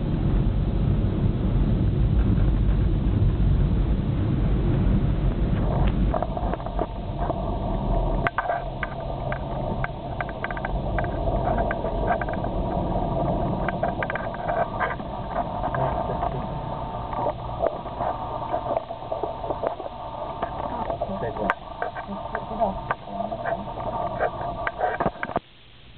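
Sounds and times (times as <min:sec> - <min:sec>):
car engine and road rumble: 0:00.0 - 0:25.5
snow crackling under tyres: 0:00.9 - 0:25.4.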